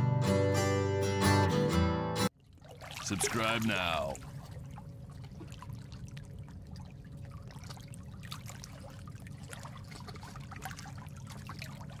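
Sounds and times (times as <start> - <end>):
water trickling: 2.3 - 12.0.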